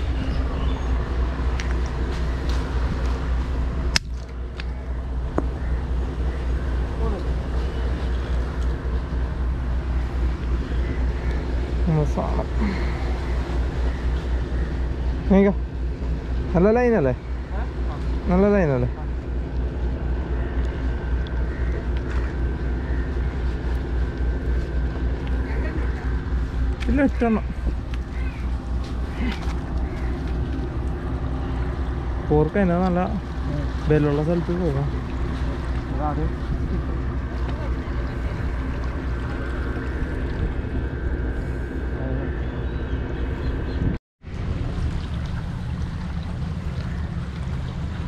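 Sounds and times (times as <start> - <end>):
distant engine drone: 0.0 - 48.0
low rumble: 0.0 - 48.0.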